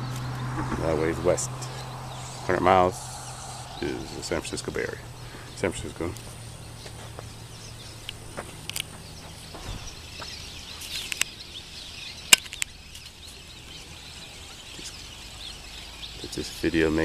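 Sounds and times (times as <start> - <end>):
birds chirping: 0.0 - 17.0
riverside ambience: 0.0 - 17.0.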